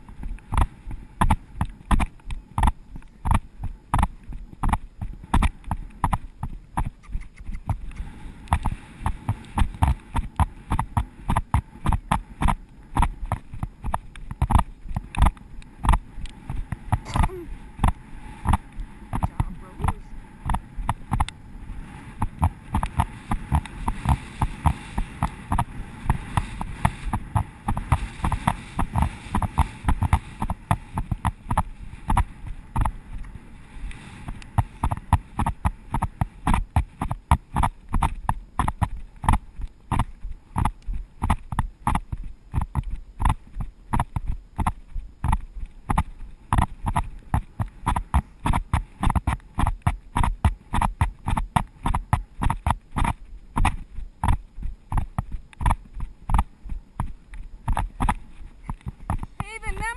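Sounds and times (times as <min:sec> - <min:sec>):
horse hoofbeats on firm ground: 0:00.0 - 0:33.3, 0:34.2 - 0:59.9
low rumble: 0:00.0 - 0:59.9.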